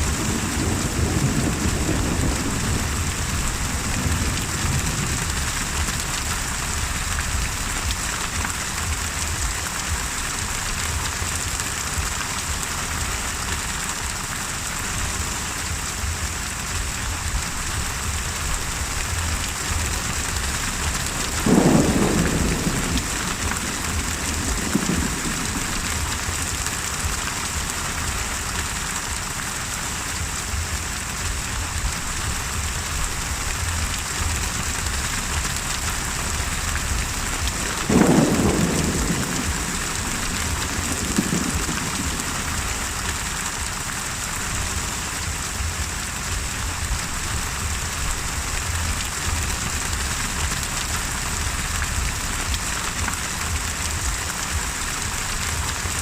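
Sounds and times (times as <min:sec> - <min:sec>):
heavy rain: 0:00.0 - 0:56.0
thunder clap and rumble: 0:00.0 - 0:56.0.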